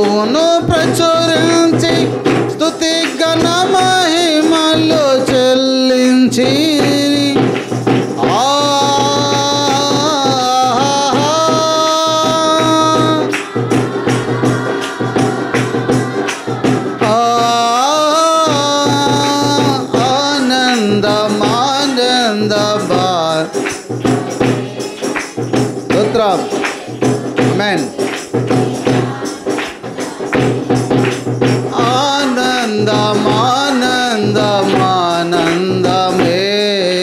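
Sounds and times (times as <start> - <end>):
steady percussion beat: 0.0 - 37.0.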